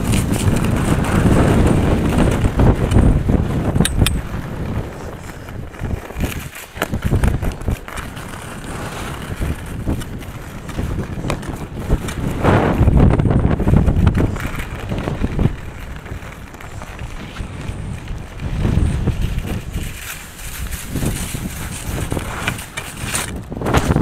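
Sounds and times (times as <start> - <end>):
skis scraping on snow: 0.0 - 24.0
wind buffeting microphone: 0.0 - 24.0.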